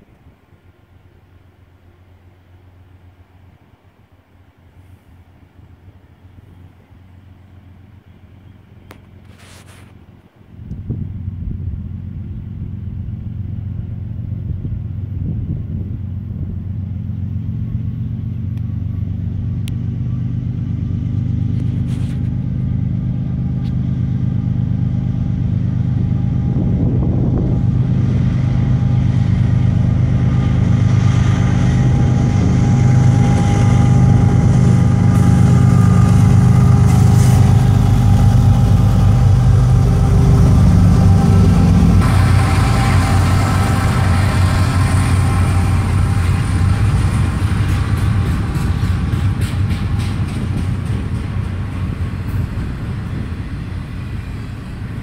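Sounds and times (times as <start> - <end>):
locomotive engine drone: 0.0 - 55.0
train wheels rumbling on rails: 0.0 - 55.0.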